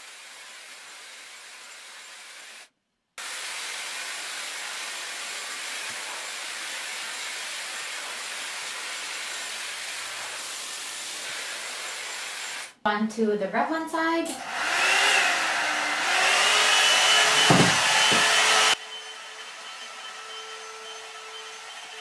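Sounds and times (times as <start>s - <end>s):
hair styler blowing air: 0.0s - 2.6s, 3.2s - 12.8s, 14.3s - 22.0s.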